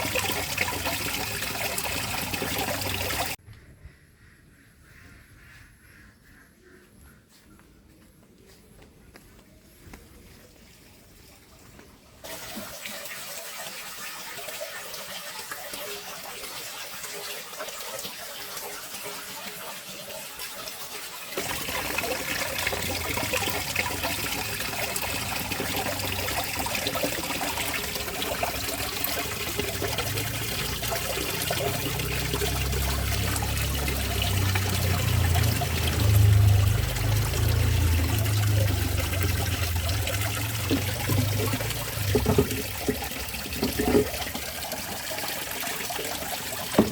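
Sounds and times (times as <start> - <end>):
water running and trickling: 0.0 - 3.4, 10.2 - 46.9.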